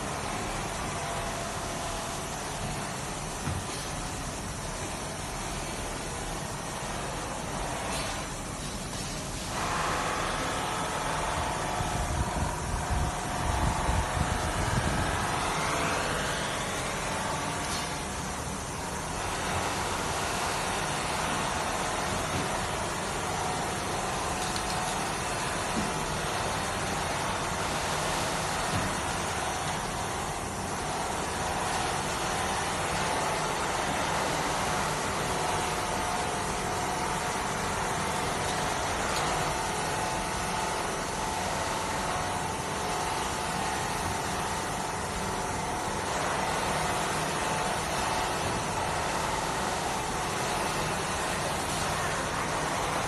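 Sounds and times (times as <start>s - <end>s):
polishing machine whirring: 9.4s - 53.0s.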